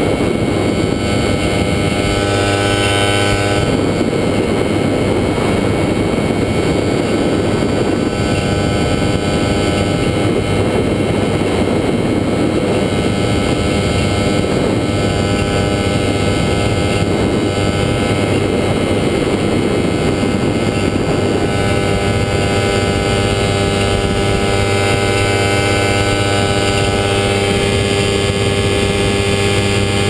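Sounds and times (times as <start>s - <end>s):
ultralight engine and propeller: 0.0s - 30.0s
wind rushing: 0.0s - 30.0s.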